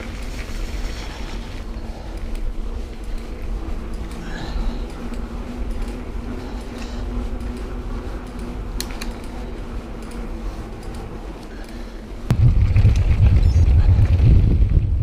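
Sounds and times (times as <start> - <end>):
bike tyres rolling on tarmac: 0.0 - 15.0.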